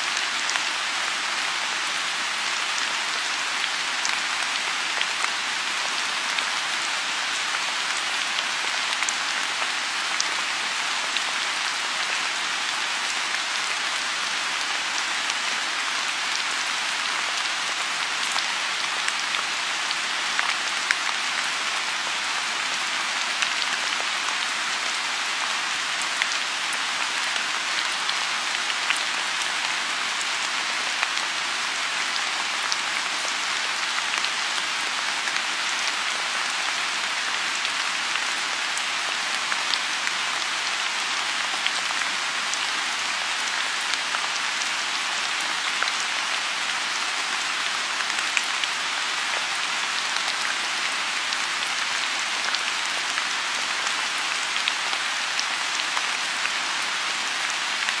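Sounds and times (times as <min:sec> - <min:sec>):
rain on a pond: 0:00.0 - 0:58.0.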